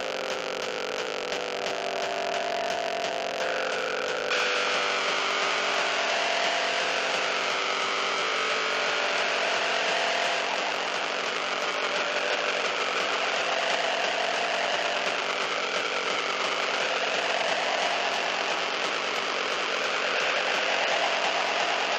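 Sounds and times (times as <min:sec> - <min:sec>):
harsh distorted noise music: 0:00.0 - 0:21.9.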